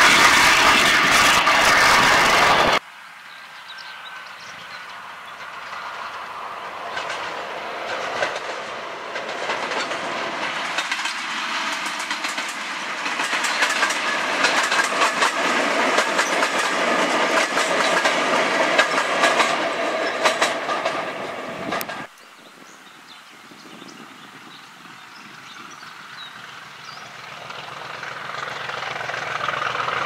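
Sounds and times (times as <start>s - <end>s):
wheels clacking over rail joints: 0.0s - 2.8s, 4.6s - 22.1s, 24.5s - 30.0s
diesel locomotive: 0.0s - 30.0s.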